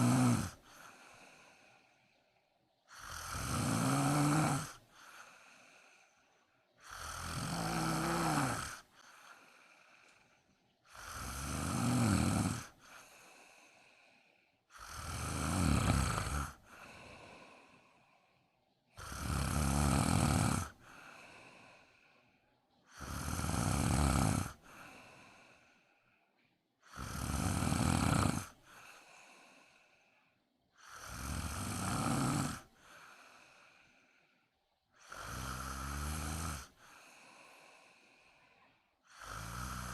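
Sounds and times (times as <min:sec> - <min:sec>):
woman snoring: 0:00.0 - 0:02.0, 0:02.9 - 0:18.2, 0:19.0 - 0:22.2, 0:22.9 - 0:25.8, 0:26.8 - 0:30.0, 0:30.8 - 0:34.2, 0:35.0 - 0:39.9.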